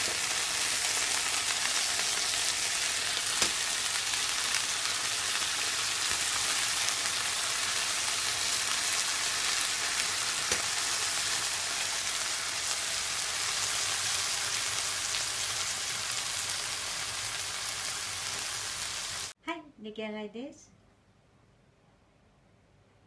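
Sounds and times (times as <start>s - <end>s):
cabbage sizzling in a pan: 0.0s - 19.4s.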